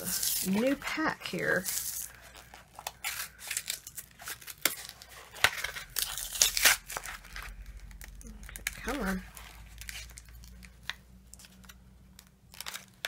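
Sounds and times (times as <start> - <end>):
packaging crinkling: 0.0 - 13.0
packaging being torn open: 1.6 - 13.0.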